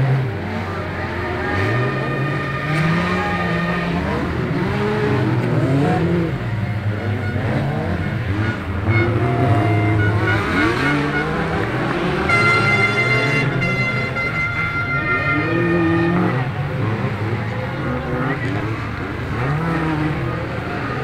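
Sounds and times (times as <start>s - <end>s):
race car engines at full throttle: 0.0s - 21.0s.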